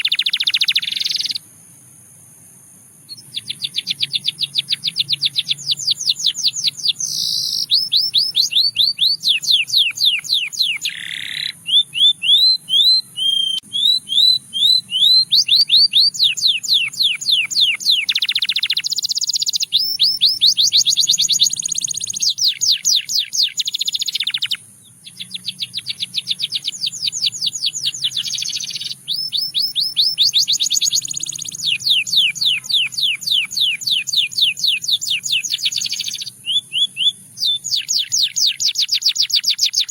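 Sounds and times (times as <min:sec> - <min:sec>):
canary singing fast trills: 0:00.0 - 0:01.6, 0:03.0 - 0:39.9.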